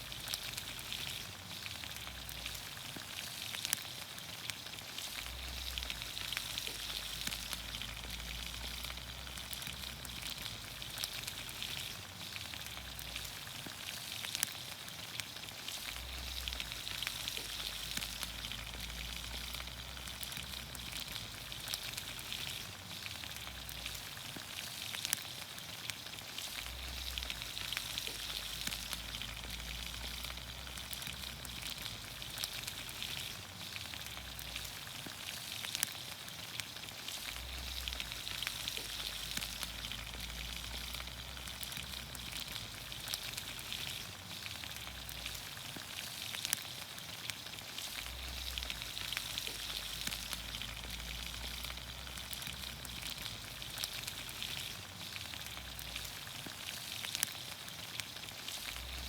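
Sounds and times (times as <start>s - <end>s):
vegetables sizzling in a pan: 0.0s - 59.0s.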